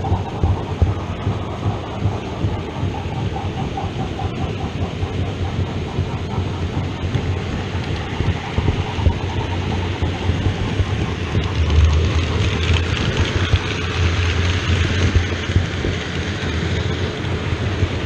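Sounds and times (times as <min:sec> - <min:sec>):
fine clicking of train wheels: 0:00.0 - 0:18.0
model train rumbling on track: 0:00.0 - 0:18.0.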